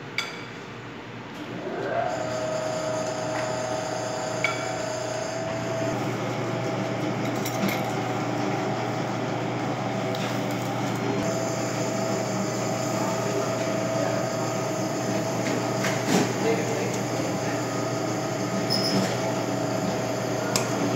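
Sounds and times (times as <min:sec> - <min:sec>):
ventilation machinery humming: 0:00.0 - 0:20.9.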